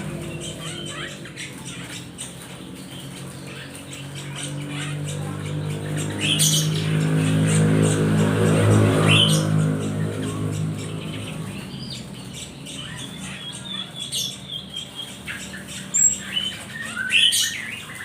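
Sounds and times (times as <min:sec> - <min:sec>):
bird squawk: 0:00.0 - 0:18.0
small birds chirping: 0:00.0 - 0:18.0.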